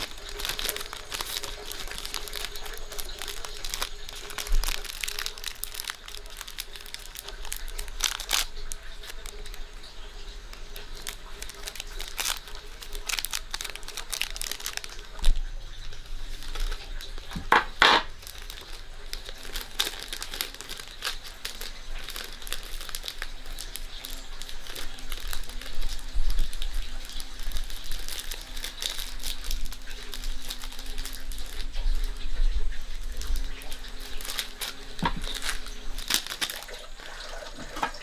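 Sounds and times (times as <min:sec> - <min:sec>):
plastic material crinkling: 0:00.0 - 0:38.0.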